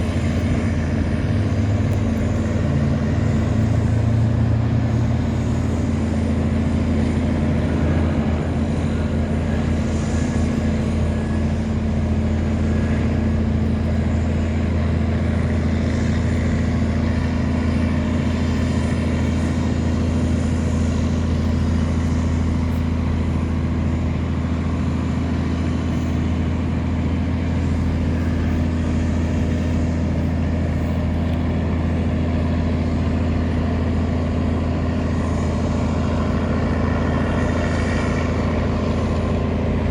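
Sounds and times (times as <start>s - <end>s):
tugboat engine droning: 0.0s - 39.9s.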